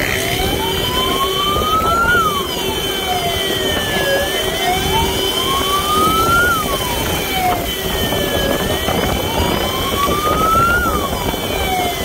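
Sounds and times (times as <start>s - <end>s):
ambulance siren wailing: 0.0s - 12.0s
motorcycle engines rumbling: 0.0s - 12.0s.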